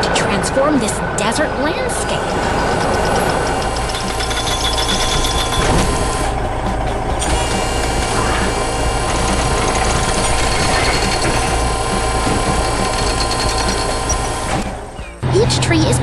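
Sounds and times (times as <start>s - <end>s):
construction machinery engine running: 0.0s - 16.0s.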